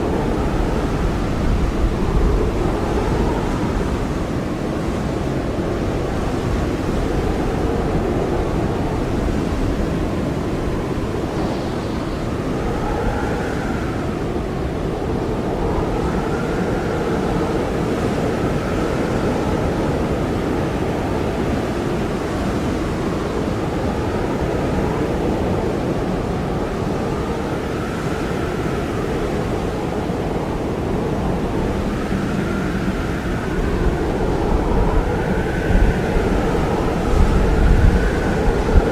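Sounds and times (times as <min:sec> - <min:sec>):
blizzard wind blowing: 0:00.0 - 0:38.9
faint wind whistling: 0:00.0 - 0:38.9.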